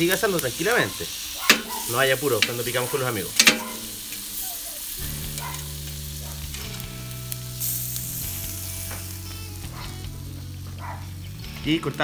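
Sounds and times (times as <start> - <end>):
beef sizzling on a grill: 0.0 - 12.0.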